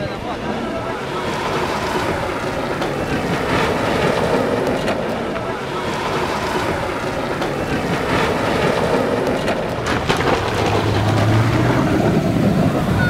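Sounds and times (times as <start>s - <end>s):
engines running: 0.0s - 13.0s
water splashing and rushing: 0.0s - 13.0s.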